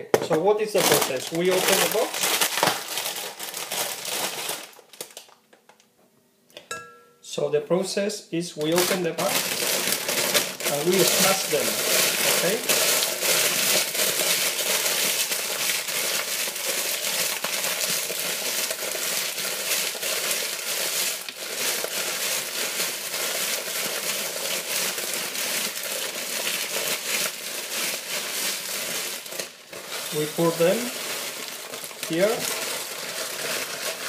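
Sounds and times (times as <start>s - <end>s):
plastic crisp packet crinkling: 0.5s - 5.9s, 8.6s - 34.0s
crisps crunching: 0.6s - 5.4s, 8.6s - 34.0s.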